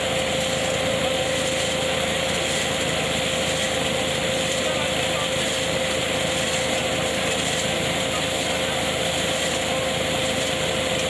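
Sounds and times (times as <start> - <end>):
constant machine whine: 0.0 - 11.0
harvesting machine running: 0.0 - 11.0.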